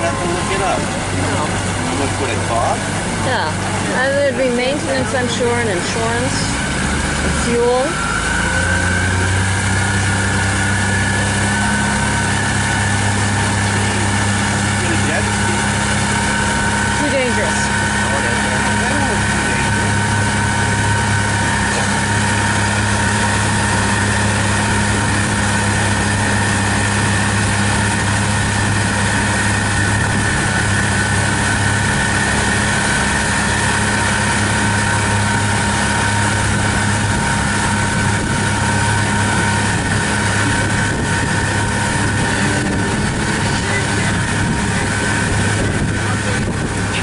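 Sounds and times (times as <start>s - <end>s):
outboard motor running: 0.0s - 47.0s.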